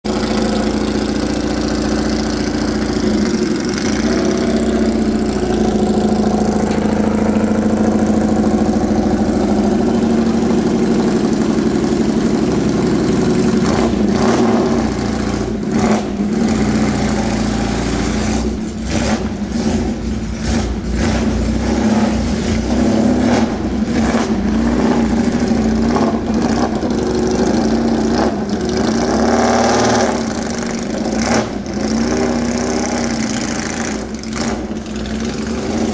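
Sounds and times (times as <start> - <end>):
engine throttle blips: 0.0 - 35.9
race car engine idling: 0.0 - 35.9.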